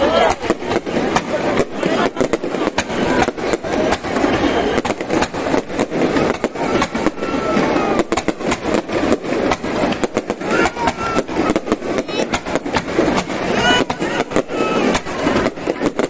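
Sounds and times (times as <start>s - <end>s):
firework shells bursting: 0.0s - 16.0s.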